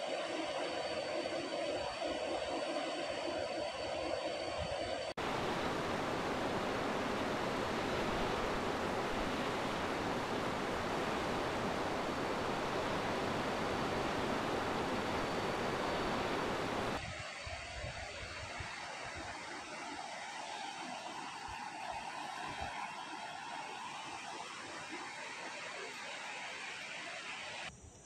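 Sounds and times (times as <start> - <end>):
rushing river water: 5.2 - 27.7.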